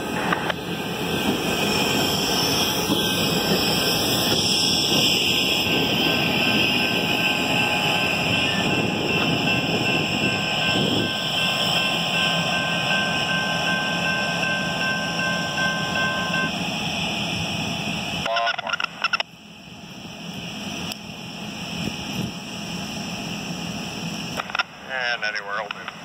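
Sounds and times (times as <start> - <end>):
diesel locomotives rumbling: 0.0 - 26.0
thin steady whine: 0.0 - 26.0.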